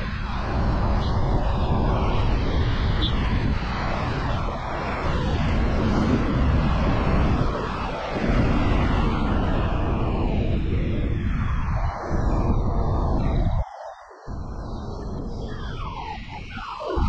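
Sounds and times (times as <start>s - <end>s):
car road noise on highway: 0.0s - 17.0s.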